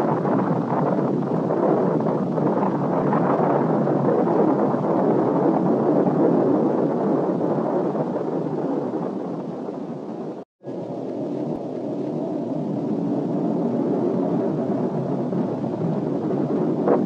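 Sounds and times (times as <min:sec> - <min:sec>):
explosion rumble: 0:00.0 - 0:17.0.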